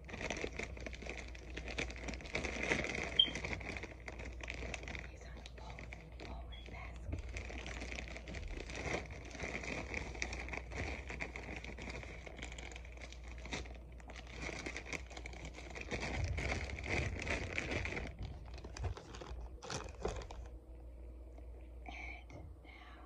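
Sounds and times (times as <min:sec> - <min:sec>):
plastic bag crinkling: 0:00.0 - 0:20.6.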